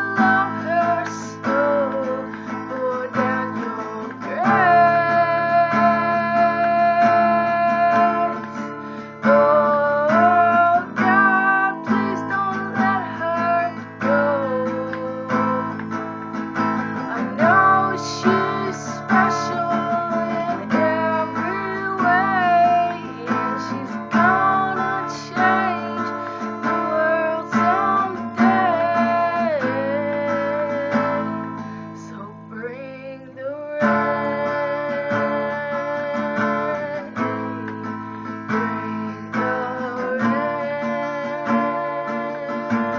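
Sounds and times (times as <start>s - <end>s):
acoustic guitar strumming: 0.0s - 42.9s
woman singing: 0.0s - 42.9s.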